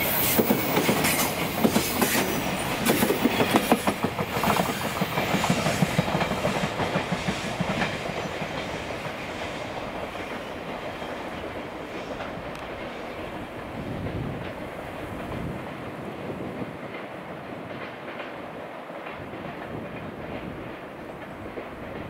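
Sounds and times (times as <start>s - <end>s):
train rumble: 0.0s - 22.0s
train wheels clicking over rails: 0.0s - 22.0s.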